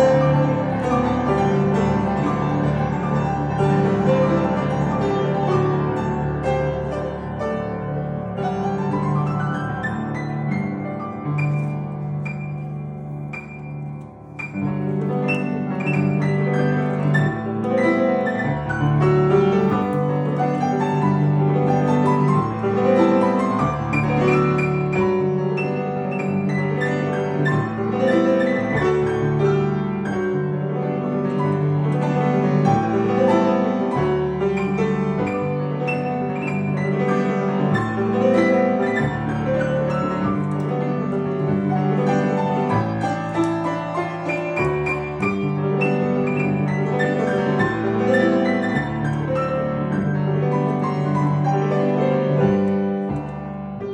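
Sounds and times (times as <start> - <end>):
piano piece: 0.0 - 53.9.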